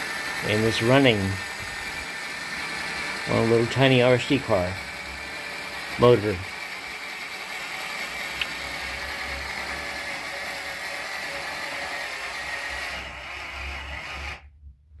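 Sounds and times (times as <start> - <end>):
toy motor driving plastic track: 0.0 - 14.5.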